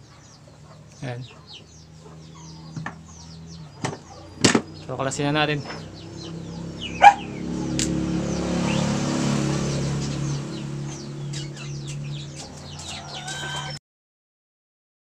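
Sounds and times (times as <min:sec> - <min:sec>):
chickens clucking and squawking: 0:00.0 - 0:09.0, 0:09.6 - 0:13.8
engine humming: 0:00.0 - 0:13.8.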